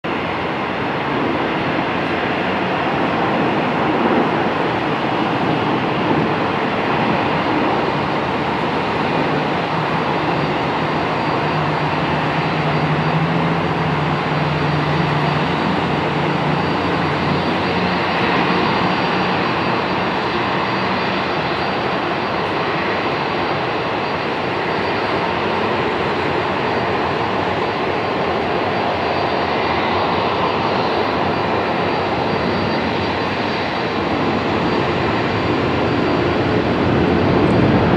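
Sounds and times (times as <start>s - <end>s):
jet engine taxiing: 0.0s - 37.9s.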